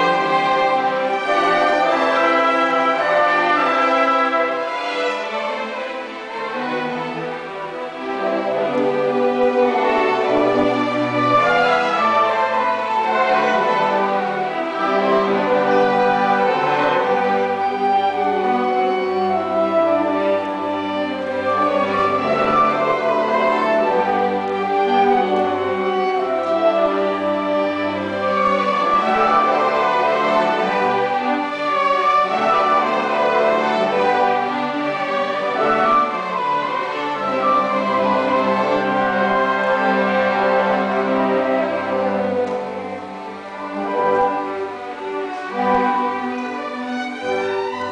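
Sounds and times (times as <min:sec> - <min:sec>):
orchestra strings playing: 0:00.0 - 0:47.9.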